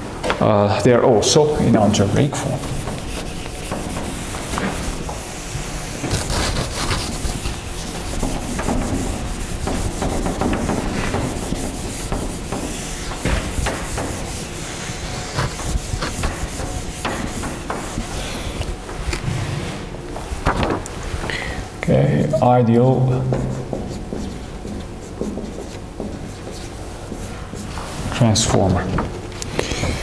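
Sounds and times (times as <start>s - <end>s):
eraser scraping whiteboard: 1.7s - 19.9s, 21.8s - 28.2s.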